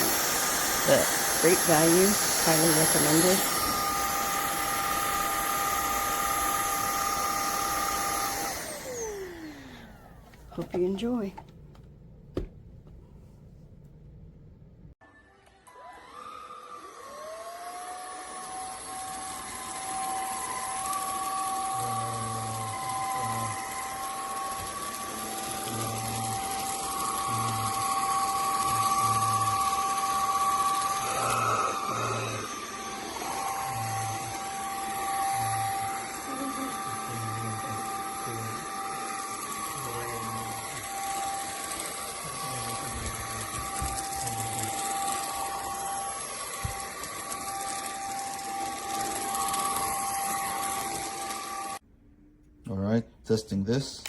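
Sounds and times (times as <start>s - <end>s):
stick vacuum motor whining: 0.0s - 13.2s, 16.0s - 51.8s.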